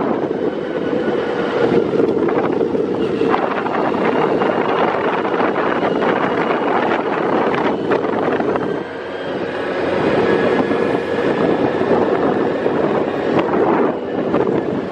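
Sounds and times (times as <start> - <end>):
wind rushing over microphone: 0.0 - 14.9.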